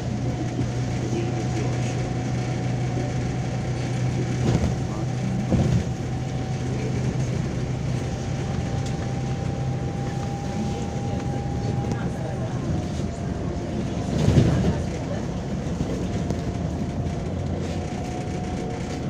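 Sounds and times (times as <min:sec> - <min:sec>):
bus engine and road drone: 0:00.0 - 0:19.0.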